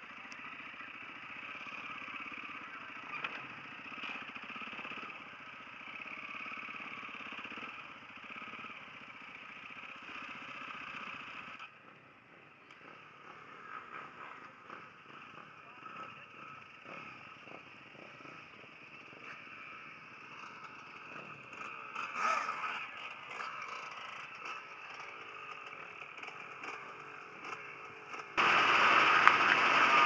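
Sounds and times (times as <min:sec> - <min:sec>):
distant motocross bike engines: 0:00.0 - 0:30.0.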